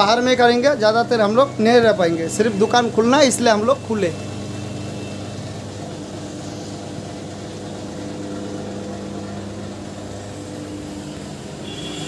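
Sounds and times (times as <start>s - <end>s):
engine idling with low hum: 0.0s - 12.0s.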